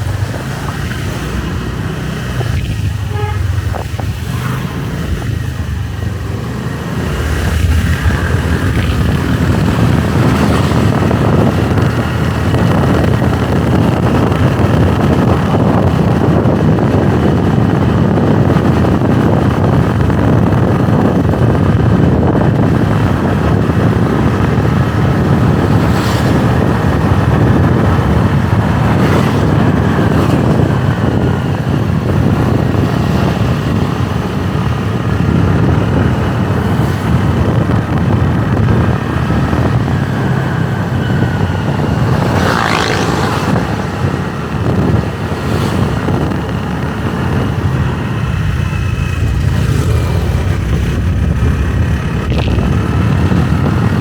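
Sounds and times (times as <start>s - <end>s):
motorbike engine and road noise: 0.0s - 54.0s
wind rushing over microphone: 0.0s - 54.0s.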